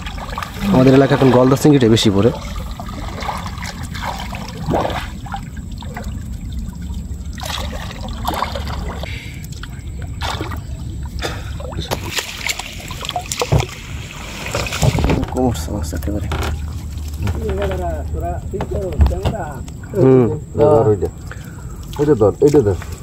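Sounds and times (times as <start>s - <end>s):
steady low rumble: 0.0s - 13.0s, 14.9s - 21.9s
water splashing and sloshing: 0.0s - 23.0s.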